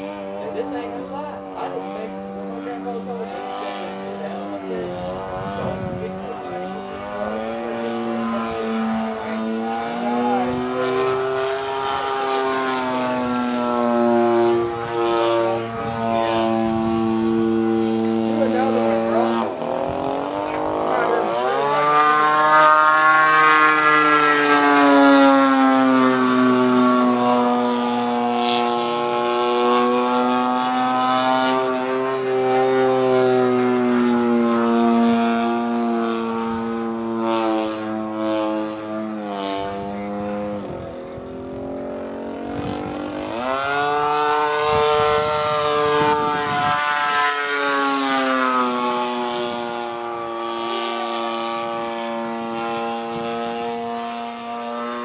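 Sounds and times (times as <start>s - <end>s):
model plane engine and propeller: 0.0s - 55.0s.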